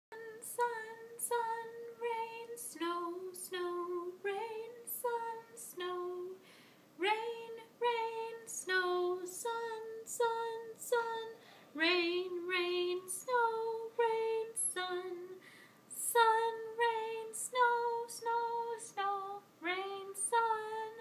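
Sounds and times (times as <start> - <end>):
woman singing unaccompanied: 0.1 - 21.0.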